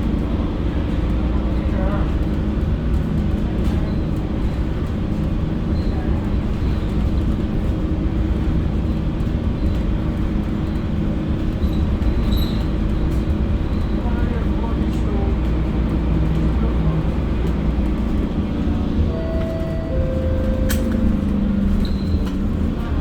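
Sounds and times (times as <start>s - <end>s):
bus engine drone: 0.0s - 23.0s
road rumble: 0.0s - 23.0s.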